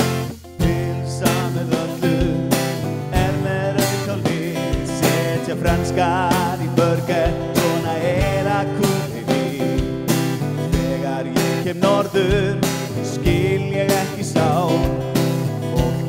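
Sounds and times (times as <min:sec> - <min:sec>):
guitar accompaniment: 0:00.0 - 0:16.0
person singing: 0:00.0 - 0:16.0
steady drum beat: 0:00.0 - 0:16.0.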